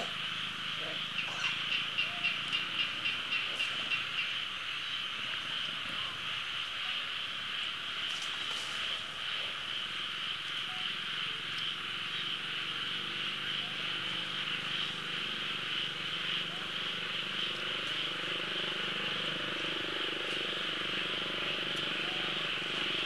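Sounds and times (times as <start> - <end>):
high-pitched insect chorus buzzing: 0.0 - 23.0.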